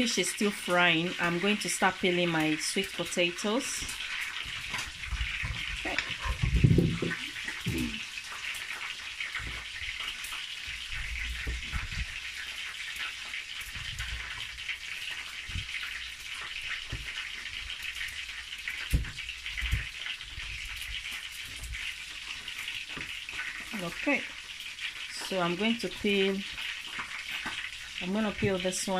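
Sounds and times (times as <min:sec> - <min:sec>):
fish frying in hot oil: 0:00.0 - 0:28.9.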